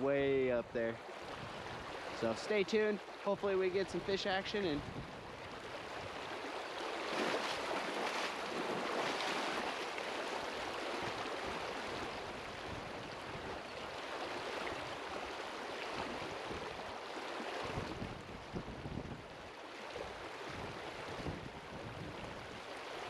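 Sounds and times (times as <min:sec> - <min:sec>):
river water rushing: 0:00.0 - 0:18.6, 0:19.3 - 0:23.0.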